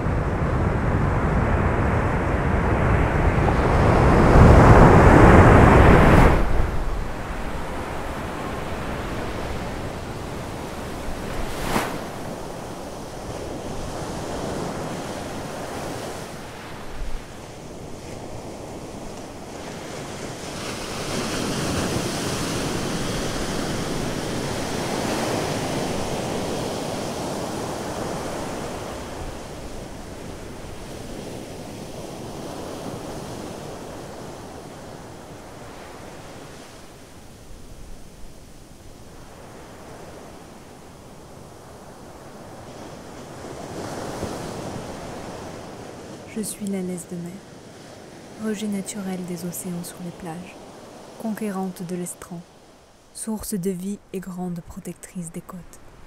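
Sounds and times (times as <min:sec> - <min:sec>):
waves breaking on sandy beach: 0:00.0 - 0:53.5, 0:55.7 - 0:56.0.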